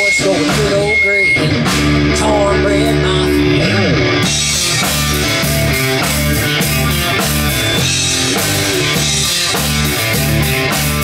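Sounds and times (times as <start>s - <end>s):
drum kit beat: 0.0s - 11.0s
electric guitars: 0.0s - 11.0s.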